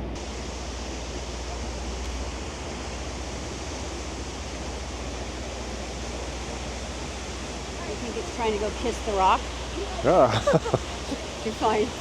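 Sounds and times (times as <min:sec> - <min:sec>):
low steady hum: 0:00.0 - 0:12.0
waterfall rushing: 0:00.2 - 0:12.0.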